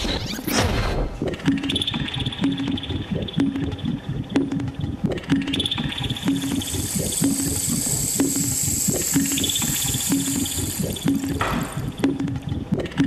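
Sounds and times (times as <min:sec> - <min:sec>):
steady repeating beat: 0:01.2 - 0:13.0.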